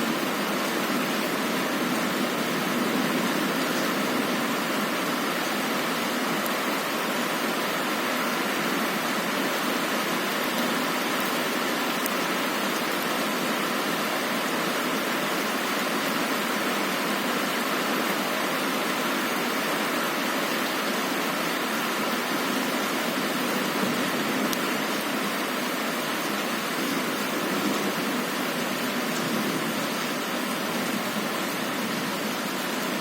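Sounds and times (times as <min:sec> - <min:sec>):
heavy rain on a window: 0:00.0 - 0:33.0.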